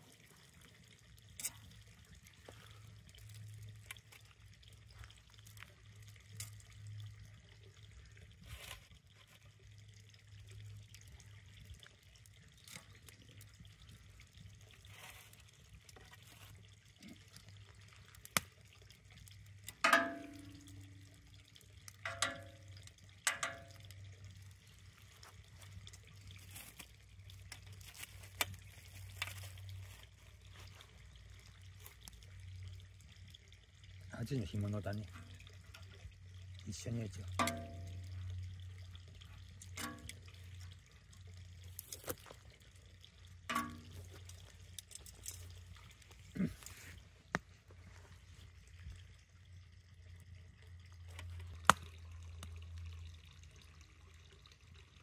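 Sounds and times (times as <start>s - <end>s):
wood fire crackling: 0.0s - 9.1s, 10.0s - 33.0s, 34.9s - 48.8s.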